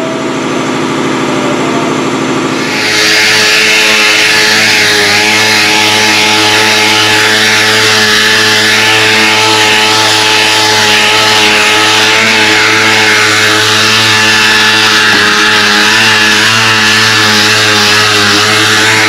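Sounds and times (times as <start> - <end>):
orbital sander on metal tube: 2.4 - 19.0.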